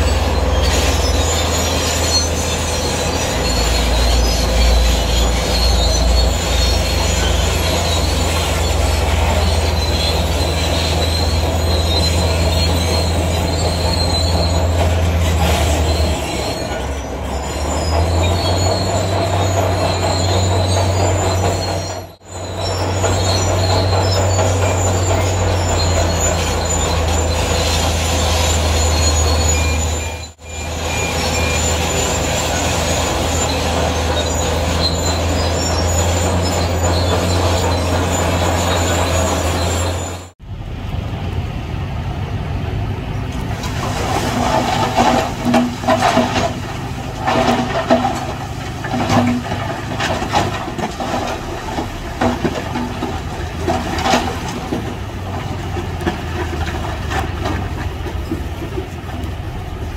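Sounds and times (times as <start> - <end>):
steel tracks squealing: 0.0 - 40.4, 43.1 - 59.9
low diesel engine drone: 0.0 - 59.9.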